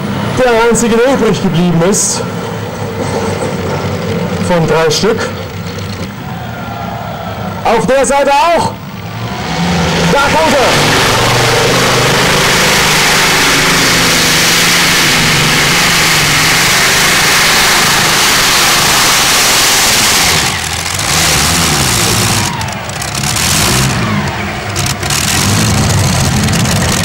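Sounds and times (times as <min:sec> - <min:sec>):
pulling tractor engine at full throttle: 0:00.0 - 0:06.6, 0:07.3 - 0:27.0.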